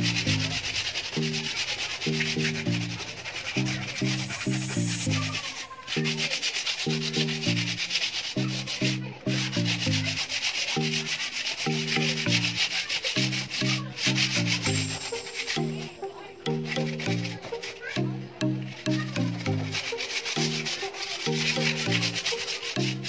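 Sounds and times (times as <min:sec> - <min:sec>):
sandpaper rubbing on wood: 0:00.0 - 0:17.9, 0:19.6 - 0:23.0
background music: 0:00.0 - 0:23.0.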